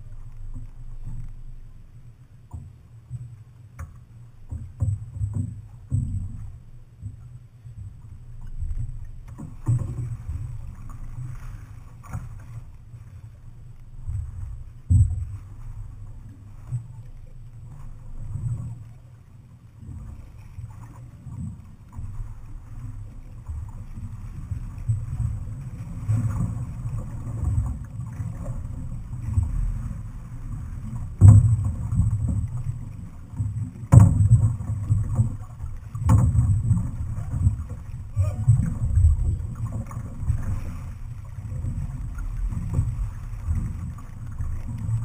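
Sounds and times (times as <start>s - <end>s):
water noise from canoe: 0.0s - 45.0s.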